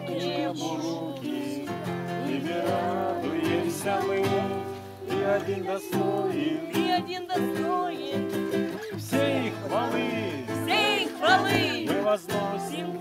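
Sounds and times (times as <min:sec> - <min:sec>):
acoustic guitar: 0:00.0 - 0:13.0
voices singing worship song: 0:00.0 - 0:13.0.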